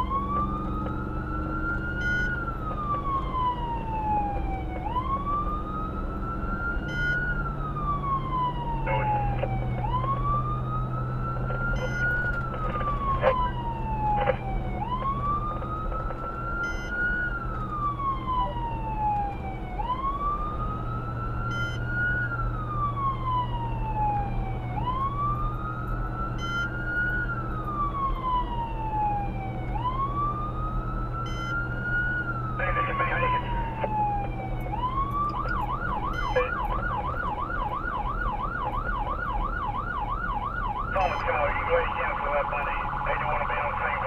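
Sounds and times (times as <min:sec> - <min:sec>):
emergency vehicle siren wailing: 0:00.0 - 0:44.0
engine and road drone: 0:00.0 - 0:44.0.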